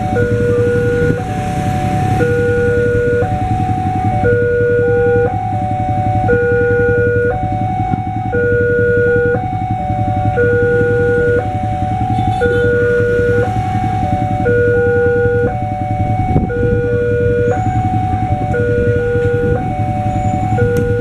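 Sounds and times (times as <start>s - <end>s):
motorcycle engines idling: 0.0s - 21.0s
two-tone electronic warning alarm: 0.0s - 21.0s.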